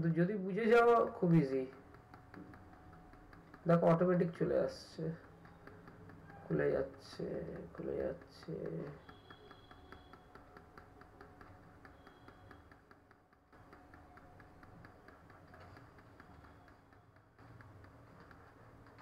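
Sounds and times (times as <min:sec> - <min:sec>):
faint rapid ticking: 0:00.0 - 0:19.0.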